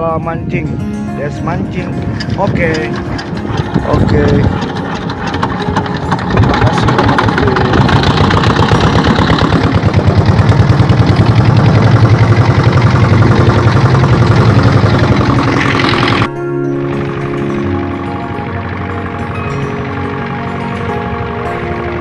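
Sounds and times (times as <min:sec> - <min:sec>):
small engine pulsing: 0:02.0 - 0:22.0.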